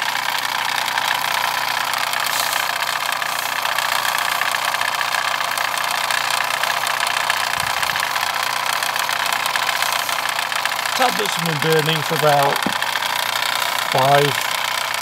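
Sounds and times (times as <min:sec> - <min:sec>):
model steam engine running: 0:00.0 - 0:15.0.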